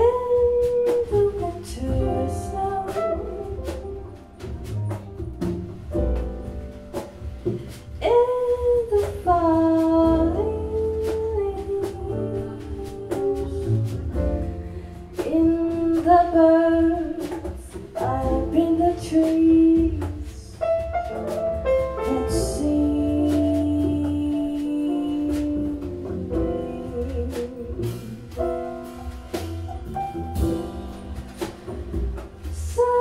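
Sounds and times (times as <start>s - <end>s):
drums: 0.0s - 33.0s
piano: 0.0s - 33.0s
upright double bass: 0.0s - 33.0s.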